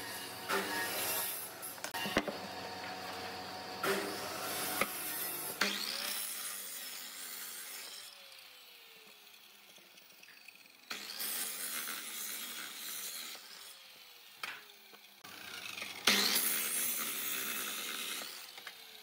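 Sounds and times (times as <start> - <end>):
miter saw motor winding down: 0.0 - 19.0.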